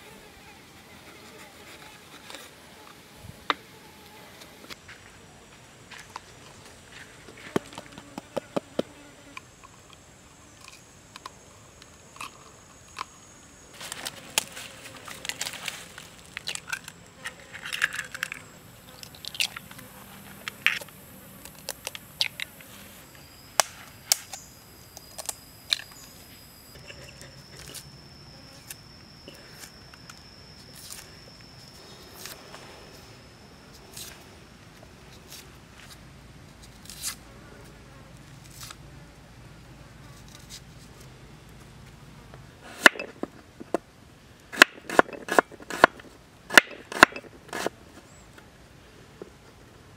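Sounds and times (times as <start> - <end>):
high insect drone: 0.0 - 41.4.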